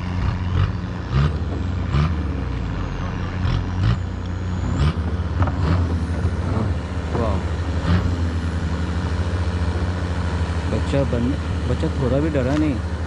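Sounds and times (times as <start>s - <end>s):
low drone: 0.0s - 13.0s.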